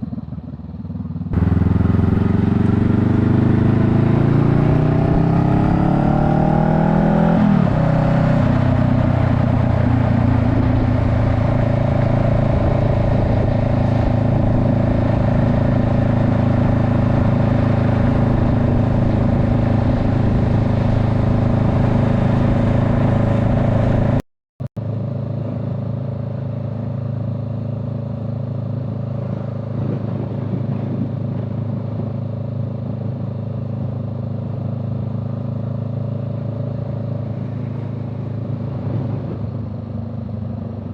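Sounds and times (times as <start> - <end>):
vehicle engine running: 0.0 - 24.2, 24.8 - 40.9.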